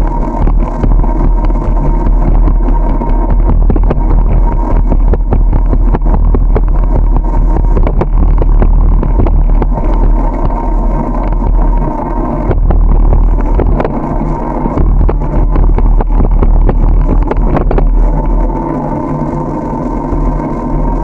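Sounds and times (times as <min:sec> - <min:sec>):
deep road rumble: 0:00.0 - 0:21.0
wind buffeting the microphone: 0:00.0 - 0:21.0.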